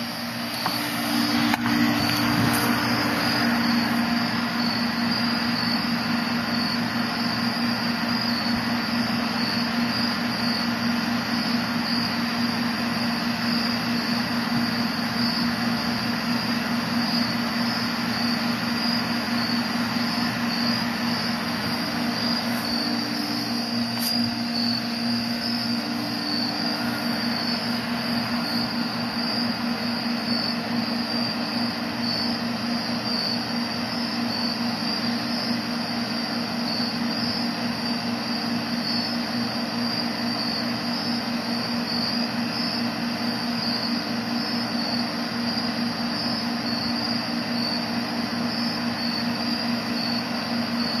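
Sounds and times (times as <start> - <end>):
insects chirring: 0.0 - 51.0.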